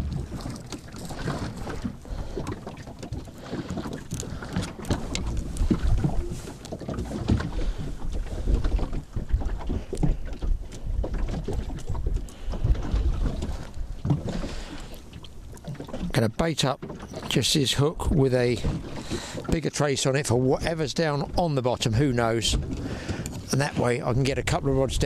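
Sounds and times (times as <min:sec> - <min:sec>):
wind buffeting microphone: 0:00.0 - 0:16.2, 0:17.3 - 0:25.0.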